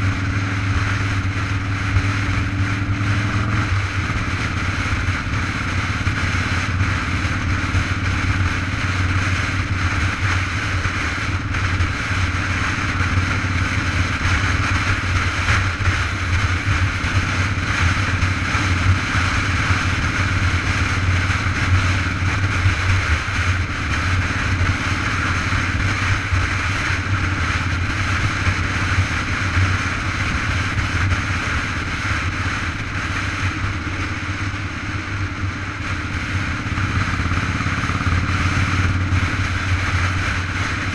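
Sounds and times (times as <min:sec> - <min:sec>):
road noise: 0:00.0 - 0:40.9.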